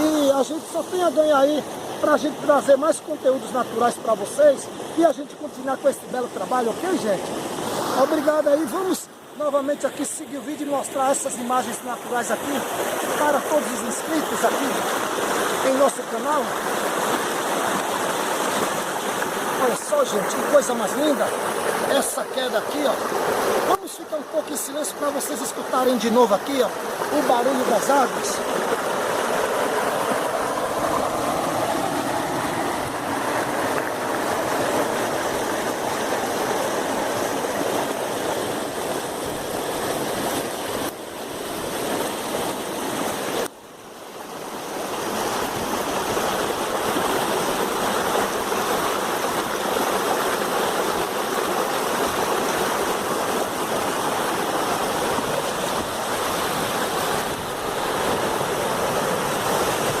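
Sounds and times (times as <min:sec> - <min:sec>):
river rushing over rocks: 0:00.0 - 1:00.0.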